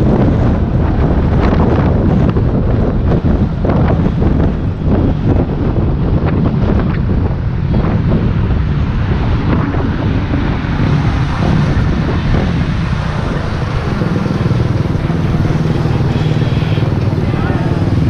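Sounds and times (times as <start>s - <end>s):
road and traffic noise: 0.0s - 18.0s
wind buffeting microphone: 0.0s - 18.0s.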